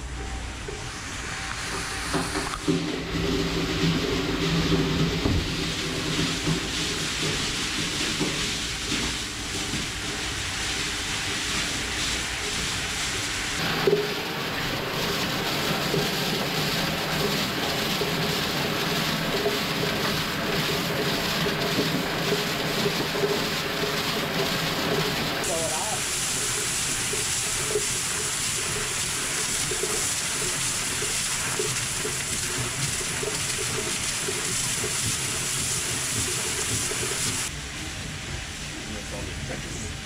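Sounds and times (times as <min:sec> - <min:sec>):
mechanical hum: 0:00.0 - 0:40.0
ice pouring through hose: 0:01.1 - 0:37.5.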